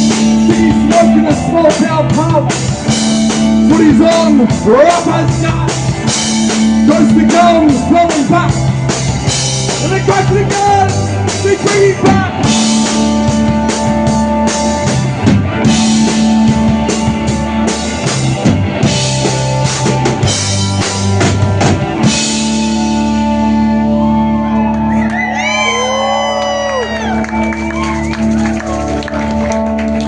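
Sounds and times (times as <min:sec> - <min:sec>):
drum kit: 0:00.0 - 0:30.0
live rock band: 0:00.0 - 0:30.0.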